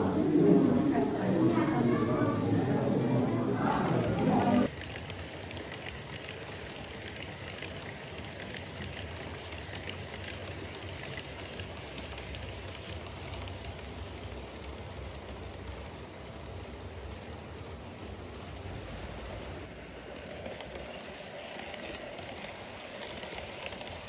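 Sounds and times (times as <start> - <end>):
model train rolling hum: 0.0 - 24.0
wheels clicking on track: 0.0 - 24.0.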